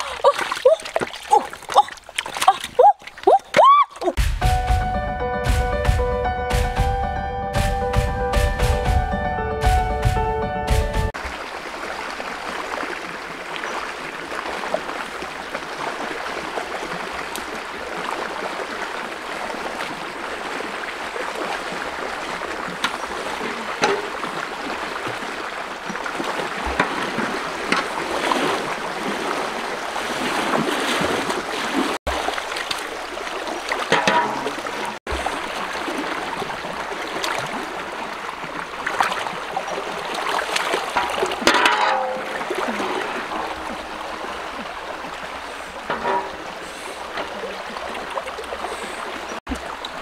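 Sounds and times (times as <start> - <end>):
shallow river flowing: 0.0 - 4.3, 11.1 - 50.0
splashes from wading: 0.0 - 4.3, 11.2 - 50.0.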